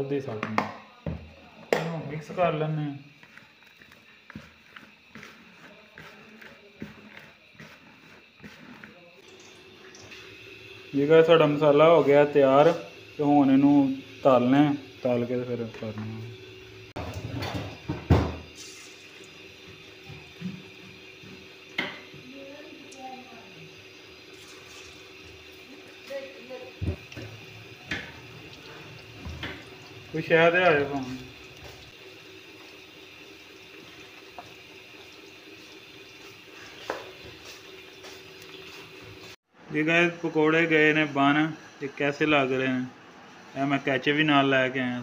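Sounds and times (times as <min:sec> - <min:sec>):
batter sizzling in hot oil: 0:00.0 - 0:45.0.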